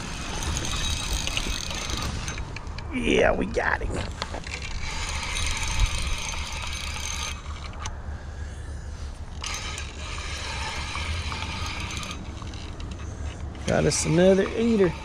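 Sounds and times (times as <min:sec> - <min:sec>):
fishing reel gears whirring: 0:00.0 - 0:02.6, 0:04.4 - 0:08.6, 0:09.2 - 0:15.0.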